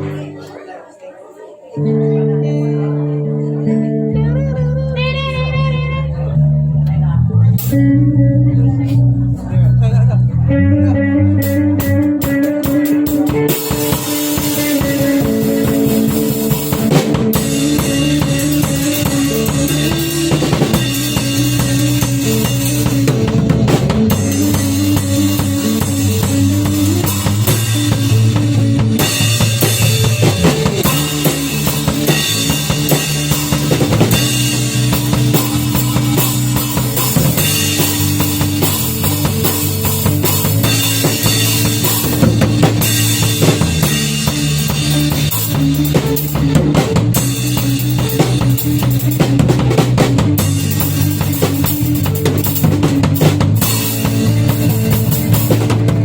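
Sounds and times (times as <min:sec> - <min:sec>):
sustained bass notes: 0:00.0 - 0:00.4, 0:01.8 - 0:56.0
drum kit playing: 0:06.9 - 0:56.0.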